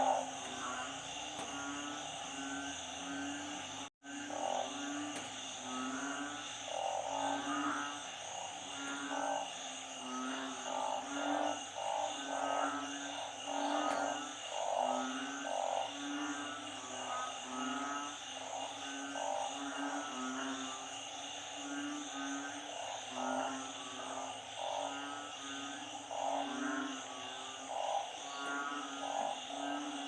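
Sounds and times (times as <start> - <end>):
frogs croaking: 0.0 - 30.0.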